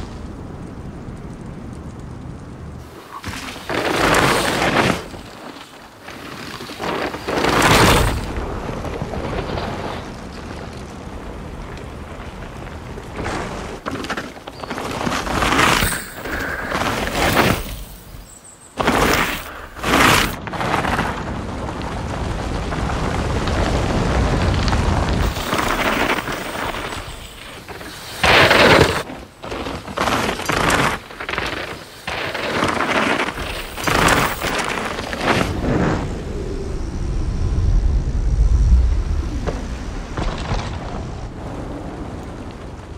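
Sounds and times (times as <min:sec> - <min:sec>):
bike tyres skidding through dirt: 0:02.8 - 0:42.9.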